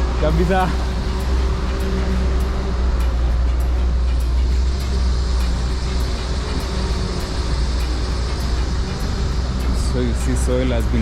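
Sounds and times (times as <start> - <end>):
low engine drone: 0.0 - 11.0
road traffic rumble: 0.0 - 11.0.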